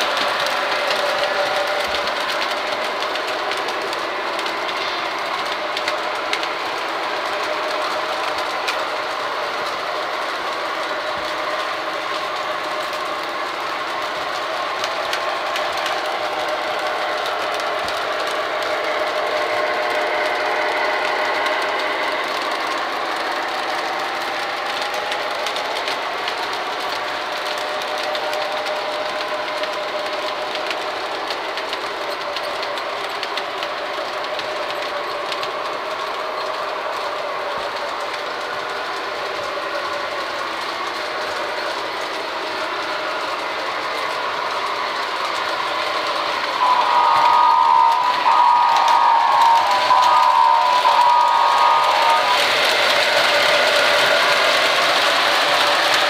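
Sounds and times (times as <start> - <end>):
model train motor whine: 0.0 - 56.0
wheels clicking on rails: 0.0 - 56.0.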